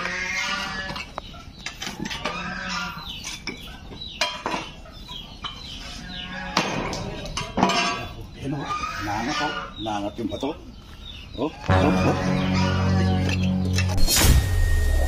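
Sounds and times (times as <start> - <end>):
poultry calling: 0.0 - 7.4, 8.0 - 14.0.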